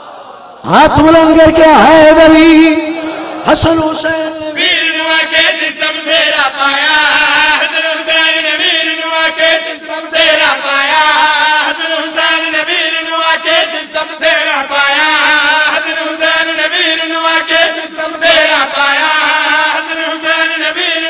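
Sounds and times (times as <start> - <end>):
men chanting into microphone: 0.0 - 21.0.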